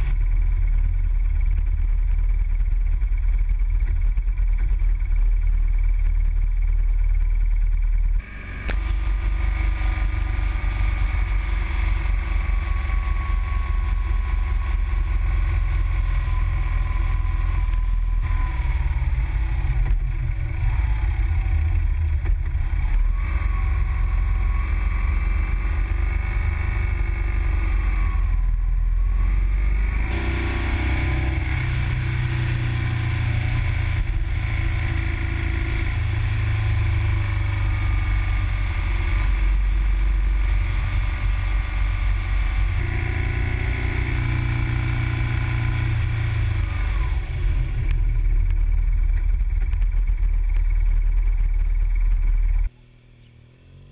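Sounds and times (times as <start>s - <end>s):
wind rumble on microphone: 0.0s - 52.7s
motorcycle engine running: 0.0s - 53.9s.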